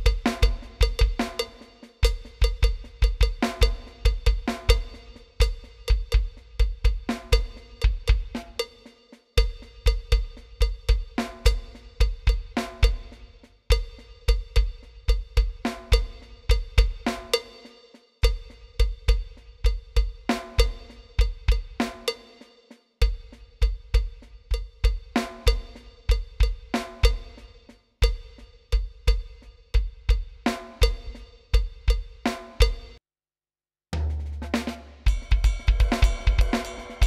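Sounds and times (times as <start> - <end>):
electronic drum kit groove: 0.0 - 33.0, 34.0 - 37.0.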